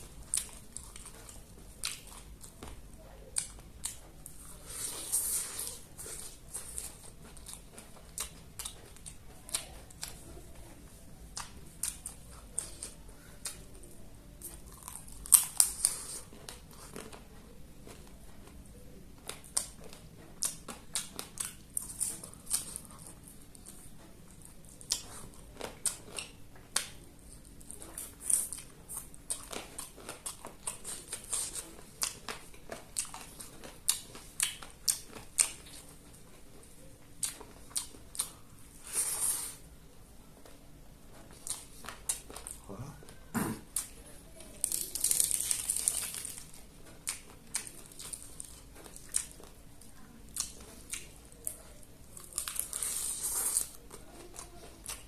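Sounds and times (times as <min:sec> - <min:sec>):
close-miked chewing and crunching: 0:00.0 - 0:55.0.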